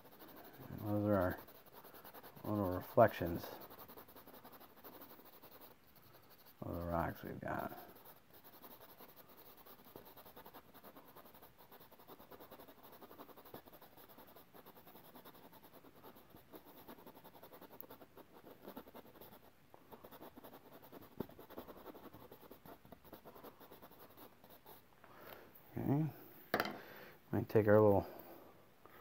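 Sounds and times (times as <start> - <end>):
paintbrush scratching on canvas: 0.0 - 24.9.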